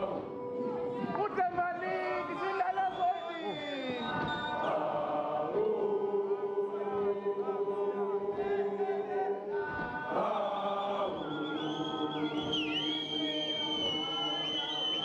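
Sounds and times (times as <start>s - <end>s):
boys singing in harmony: 0.0s - 2.4s, 4.0s - 15.0s.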